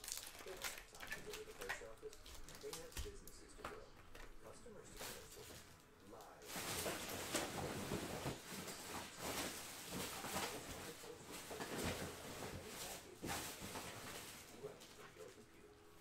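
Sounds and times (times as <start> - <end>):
rustling and clattering handling: 0.0 - 15.5.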